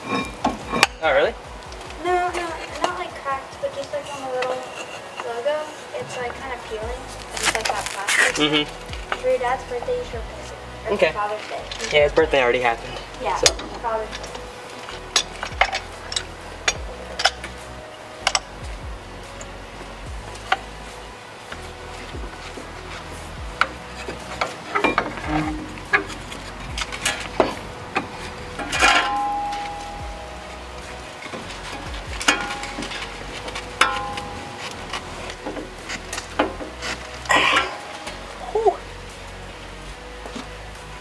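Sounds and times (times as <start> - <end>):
hand tools clicking and knocking: 0.0 - 5.4, 7.1 - 17.6, 18.2 - 38.8
low steady hum: 0.0 - 41.0.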